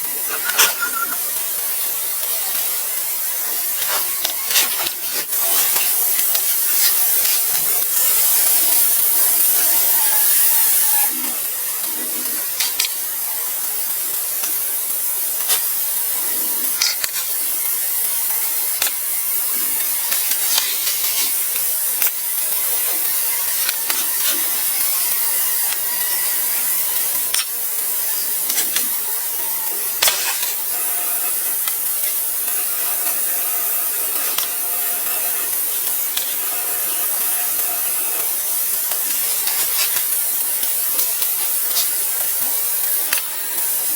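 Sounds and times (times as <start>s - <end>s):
steady high hiss: 0.0s - 43.9s.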